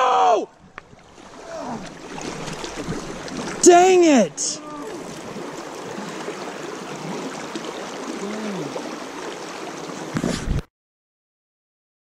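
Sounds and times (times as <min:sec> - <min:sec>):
river current flowing: 0:00.0 - 0:10.6.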